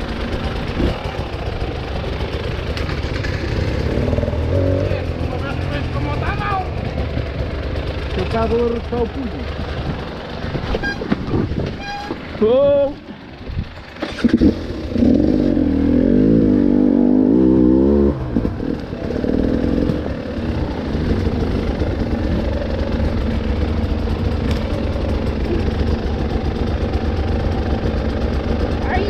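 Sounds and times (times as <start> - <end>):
off-road vehicle engine revving: 2.6 - 12.4, 13.9 - 29.0.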